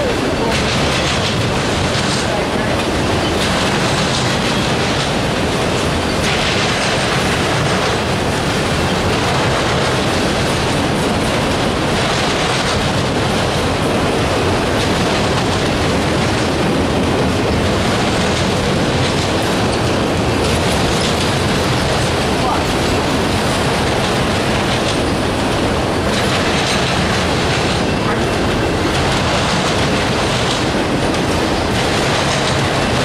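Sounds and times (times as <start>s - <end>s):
train wheels rolling on rails: 0.0s - 33.0s.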